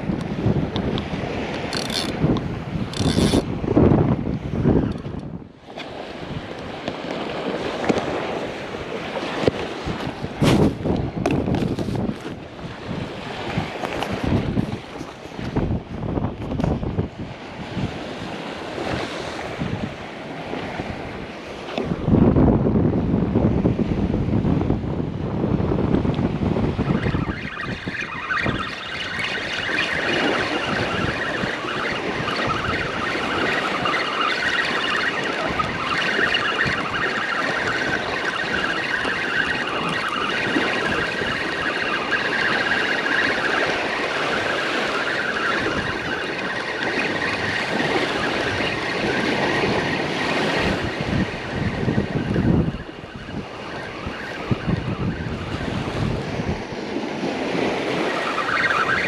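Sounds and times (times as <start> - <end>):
ocean surf on a beach: 0.0 - 59.0
wind buffeting microphone: 0.0 - 59.0.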